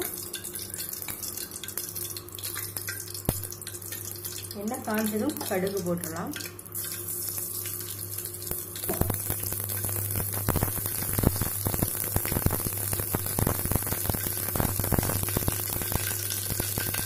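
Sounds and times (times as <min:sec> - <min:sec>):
seeds crackling and popping in oil: 0:00.0 - 0:17.0.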